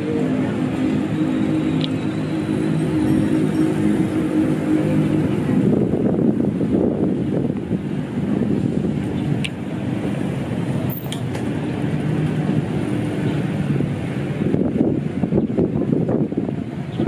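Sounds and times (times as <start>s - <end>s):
road traffic rumble: 0.0s - 17.0s
wind on microphone: 0.0s - 17.0s.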